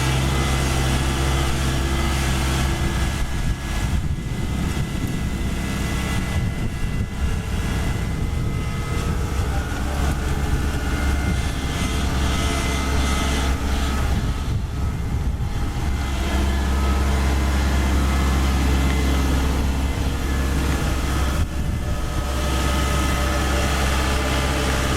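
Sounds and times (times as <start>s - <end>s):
combine harvester engine humming: 0.0s - 24.9s.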